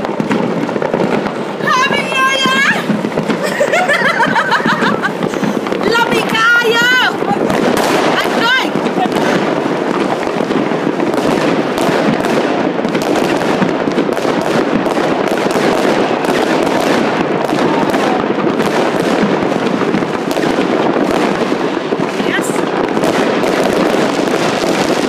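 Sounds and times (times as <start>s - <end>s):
fireworks and firecrackers crackling: 0.0s - 25.0s.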